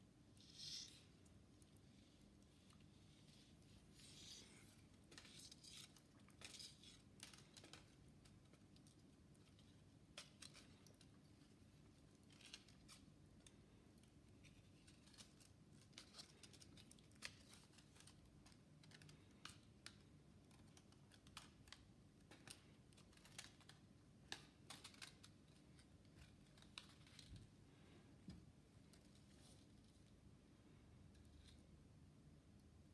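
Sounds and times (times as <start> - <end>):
faint small clicks and scratches: 0.3 - 32.9.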